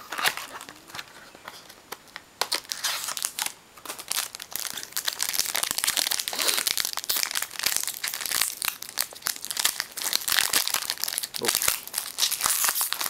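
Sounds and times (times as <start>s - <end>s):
card pack wrapper crinkling: 0.1s - 13.0s.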